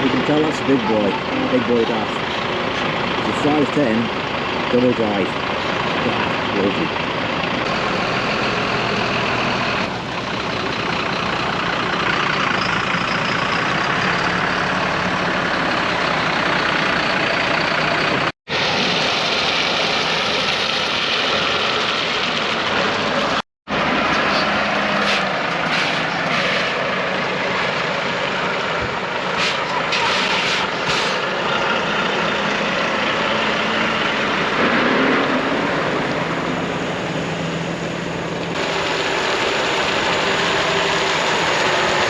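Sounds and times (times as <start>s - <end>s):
diesel lorry engines running: 0.0s - 42.0s.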